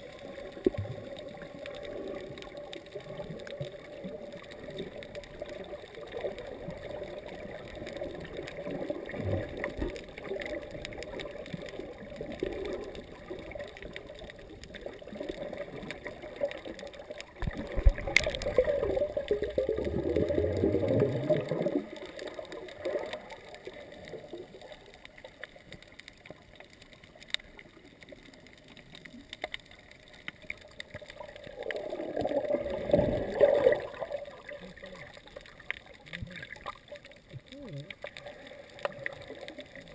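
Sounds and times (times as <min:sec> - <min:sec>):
muffled underwater rush: 0:00.0 - 0:39.9.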